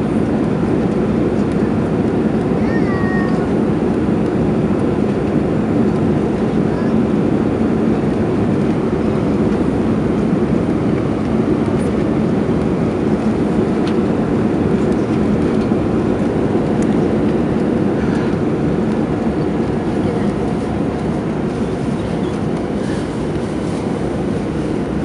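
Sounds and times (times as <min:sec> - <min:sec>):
airplane cabin engine rush: 0:00.0 - 0:25.0.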